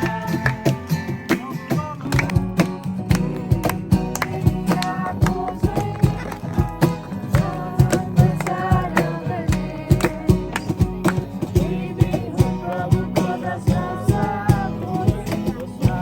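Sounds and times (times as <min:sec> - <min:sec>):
music with beat and guitar: 0:00.0 - 0:16.0.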